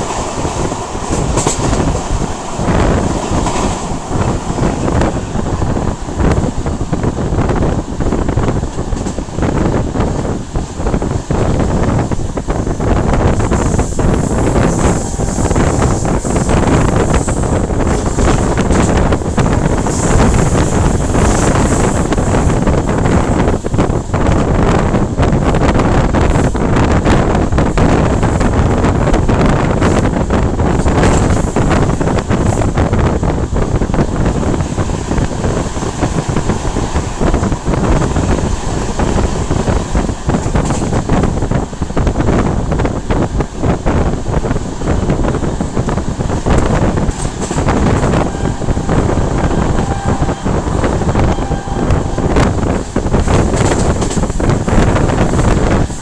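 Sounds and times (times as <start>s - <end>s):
running train rumble: 0.0s - 56.0s
wind buffeting microphone: 0.0s - 56.0s.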